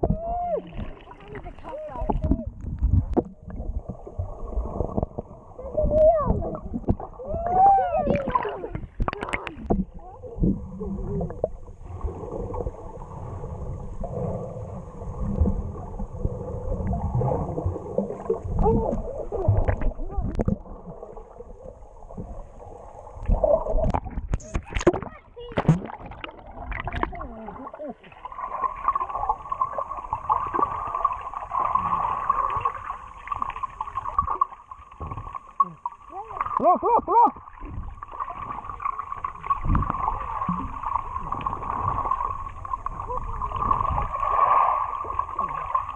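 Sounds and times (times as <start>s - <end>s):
muffled water sloshing and gurgling: 0.0s - 45.9s
watery rumble: 0.0s - 45.9s.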